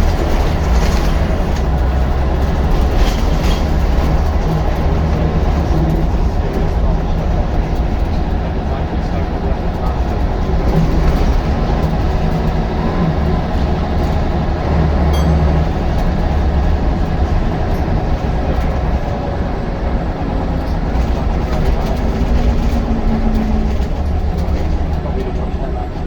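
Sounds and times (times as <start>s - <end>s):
bus diesel engine droning: 0.0s - 26.0s.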